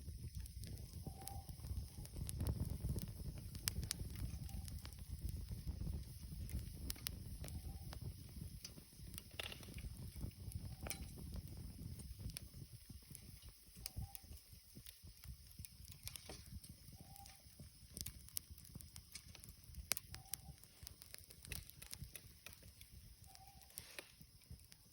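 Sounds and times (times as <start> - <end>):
campfire crackling and popping: 0.0 - 24.9.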